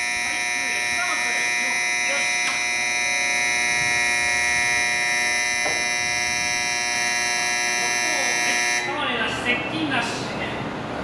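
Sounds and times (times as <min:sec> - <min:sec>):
platform departure bell buzzing: 0:00.0 - 0:09.2.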